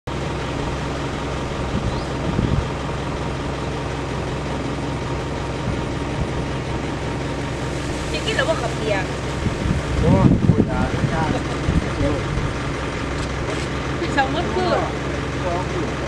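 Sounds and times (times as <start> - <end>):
engine droning: 0.1 - 16.0.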